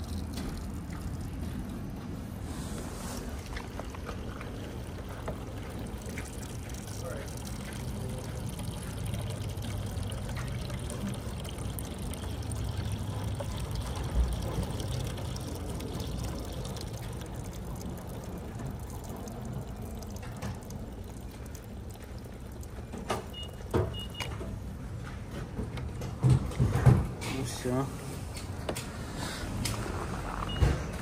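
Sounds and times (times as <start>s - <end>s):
fuel trickling into a tank: 0.0s - 31.0s.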